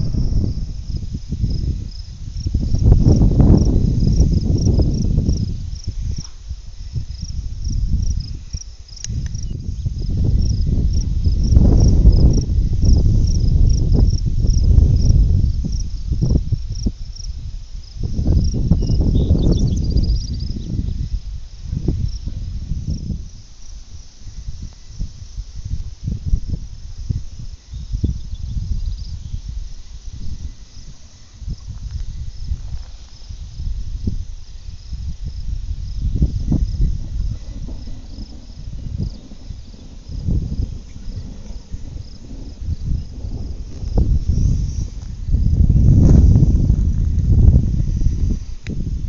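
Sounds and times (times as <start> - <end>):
crickets chirping: 0.0 - 49.0
gusty low rumble: 0.0 - 49.0
wind buffeting microphone: 0.0 - 49.0.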